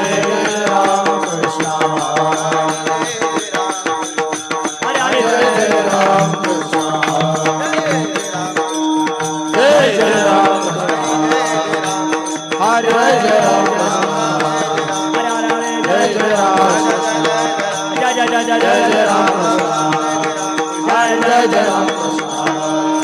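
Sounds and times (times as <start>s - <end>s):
person singing: 0.0s - 4.0s, 4.8s - 8.7s, 9.5s - 23.0s.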